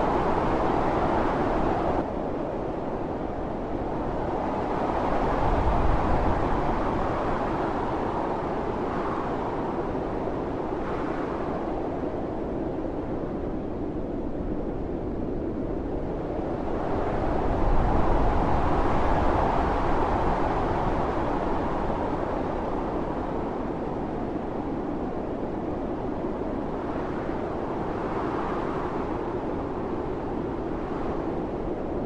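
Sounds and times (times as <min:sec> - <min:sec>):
blizzard wind blowing: 0:00.0 - 0:32.0.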